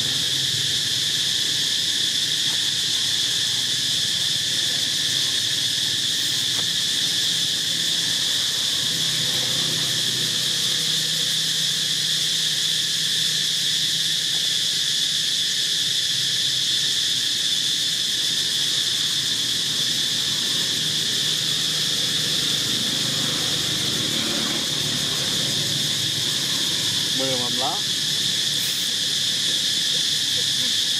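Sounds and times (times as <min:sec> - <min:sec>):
insect chorus droning: 0:00.0 - 0:30.9.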